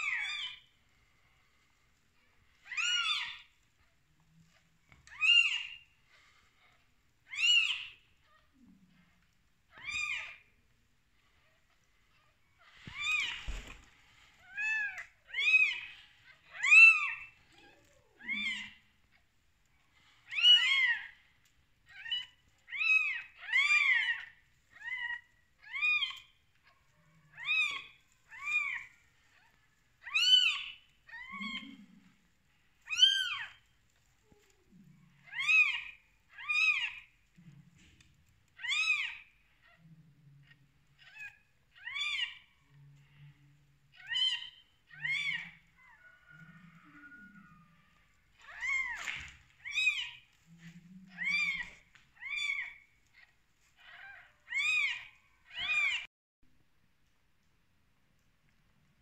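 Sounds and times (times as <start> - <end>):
kittens mewing: 0.0 - 0.7, 2.5 - 4.0, 5.0 - 9.1, 9.7 - 10.7, 12.3 - 13.8, 14.4 - 19.3, 20.2 - 21.2, 21.9 - 33.7, 34.3 - 38.0, 38.6 - 56.1.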